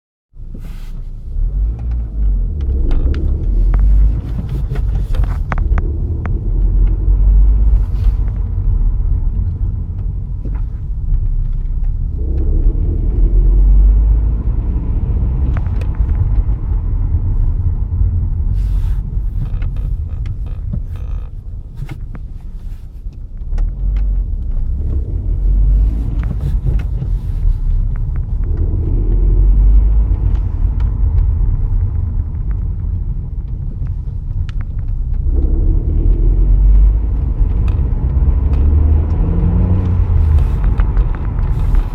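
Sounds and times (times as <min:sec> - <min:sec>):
car engine idling rumble: 0:00.4 - 0:41.9.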